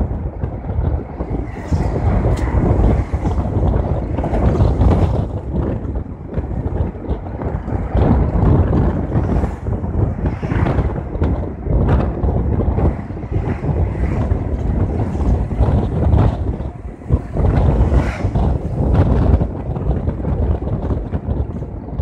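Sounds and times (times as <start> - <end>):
vehicle engine and tyres rumbling: 0.0 - 22.0
wind buffeting microphone: 0.0 - 22.0.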